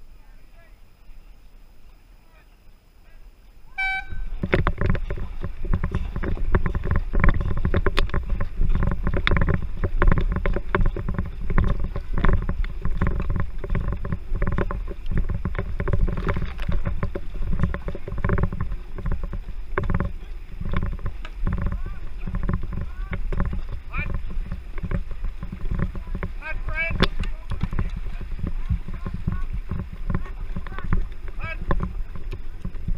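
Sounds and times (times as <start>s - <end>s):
canoe paddles splashing: 0.0s - 32.9s
water churning: 0.0s - 32.9s.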